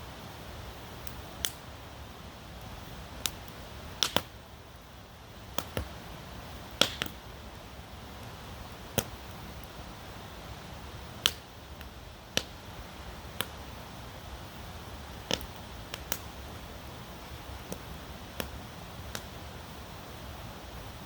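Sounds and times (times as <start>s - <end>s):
background hiss: 0.0s - 21.0s
campfire crackling: 0.0s - 21.0s.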